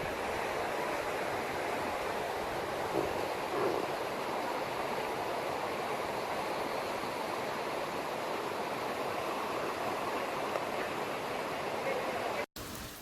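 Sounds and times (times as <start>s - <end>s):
flooded river rushing: 0.0s - 13.0s.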